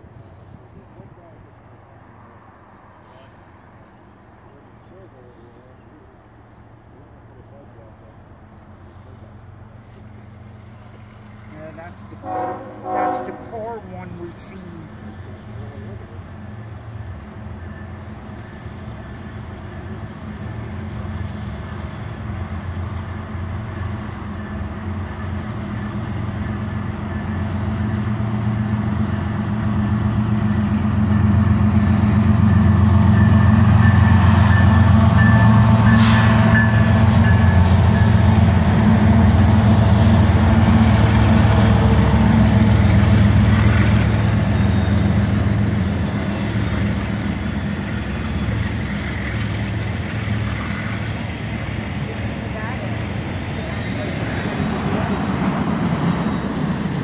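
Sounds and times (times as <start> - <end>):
diesel locomotive engine rumble: 0.0 - 57.0
freight cars rolling by: 8.1 - 57.0.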